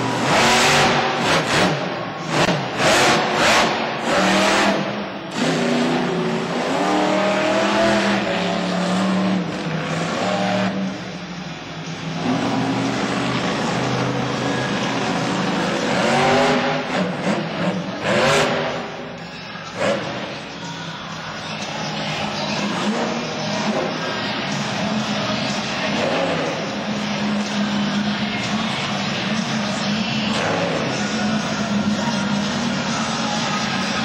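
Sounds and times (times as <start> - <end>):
monster truck engine revving: 0.0 - 20.8, 21.4 - 34.0.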